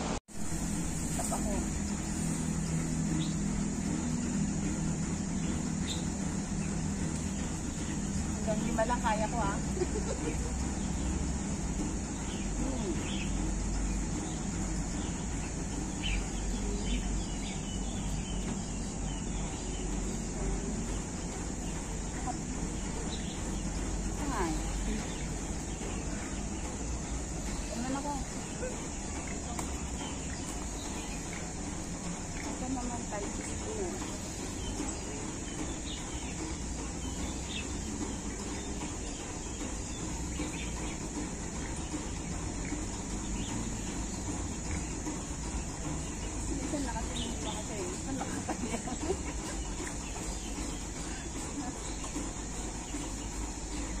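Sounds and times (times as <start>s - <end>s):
low rumble with high hiss: 0.0s - 54.0s.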